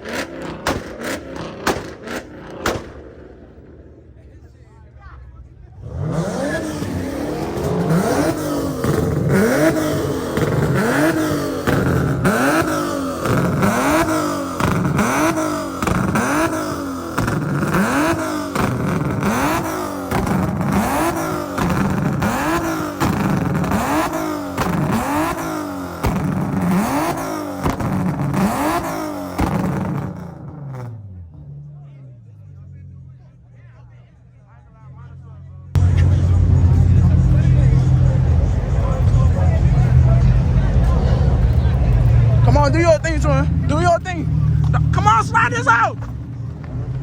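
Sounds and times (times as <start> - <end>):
car engine revving: 0.0 - 33.4, 34.9 - 47.0.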